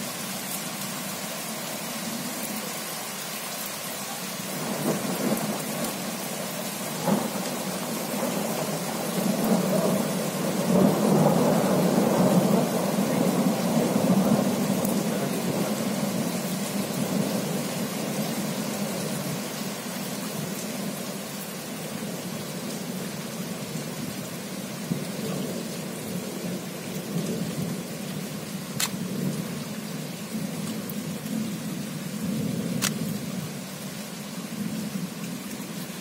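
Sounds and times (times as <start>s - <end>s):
steady rain: 0.0s - 36.0s.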